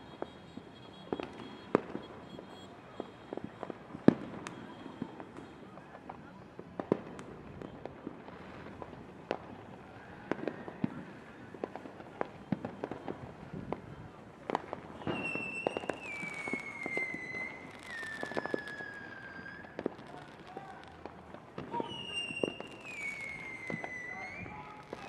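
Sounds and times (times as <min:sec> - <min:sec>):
distant fireworks pops and bangs: 0:00.0 - 0:25.0.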